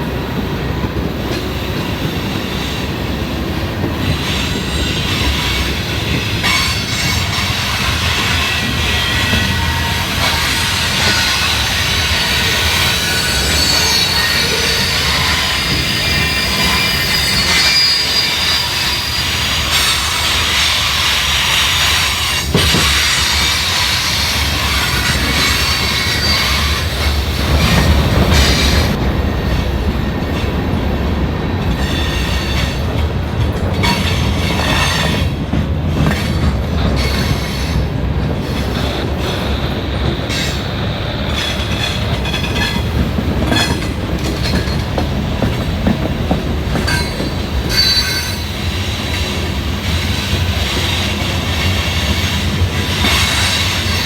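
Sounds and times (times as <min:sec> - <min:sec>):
train rumble: 0:00.0 - 0:54.0
train wheels squealing: 0:04.0 - 0:29.0, 0:31.6 - 0:33.0, 0:33.8 - 0:35.4, 0:36.0 - 0:54.0.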